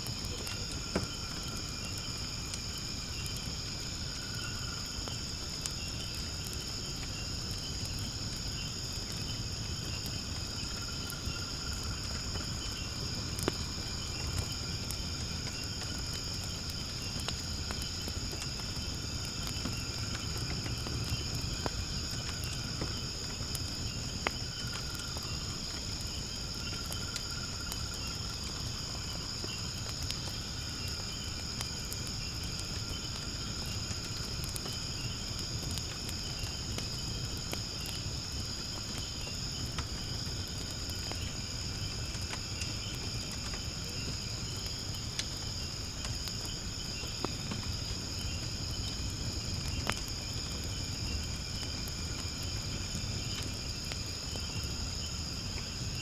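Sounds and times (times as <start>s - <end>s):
night insects chirring: 0.0s - 56.0s
wood fire hissing and crackling: 0.0s - 56.0s.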